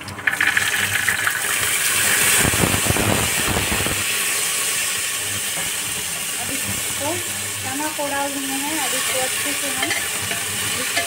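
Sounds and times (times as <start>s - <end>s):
chickpeas sizzling in hot oil: 0.0s - 11.0s.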